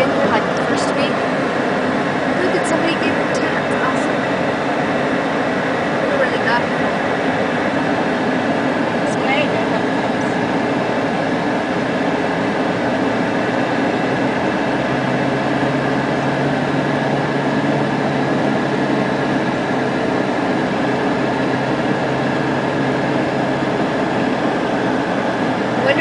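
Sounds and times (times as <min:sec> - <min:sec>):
car engine and road noise: 0:00.0 - 0:26.0
low steady hum: 0:00.0 - 0:26.0.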